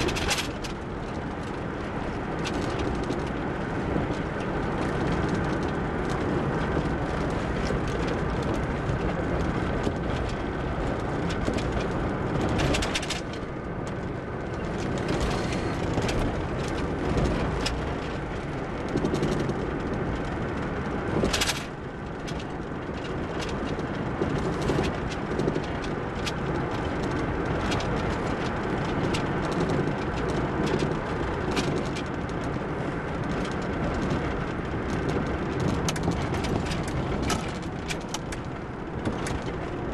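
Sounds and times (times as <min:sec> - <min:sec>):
road and engine noise in car: 0:00.0 - 0:39.9
small clicks and knocks: 0:00.0 - 0:39.9.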